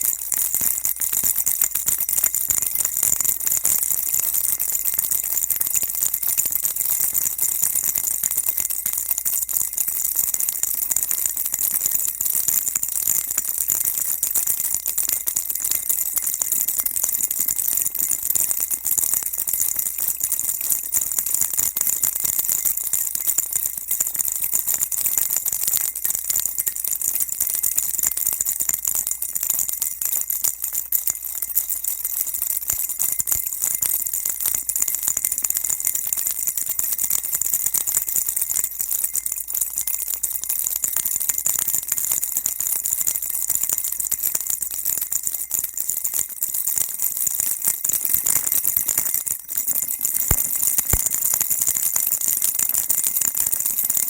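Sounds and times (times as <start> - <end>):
baby rattle shaken: 0.0 - 10.8, 11.5 - 46.3, 48.1 - 51.8.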